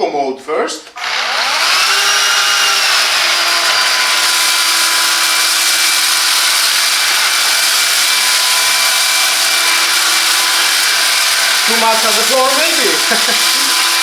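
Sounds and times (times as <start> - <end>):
vacuum cleaner motor whine: 1.0 - 14.0.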